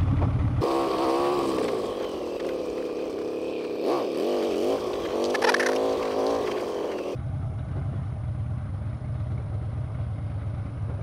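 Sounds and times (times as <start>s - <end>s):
motorcycle engine at low speed: 0.0s - 11.0s.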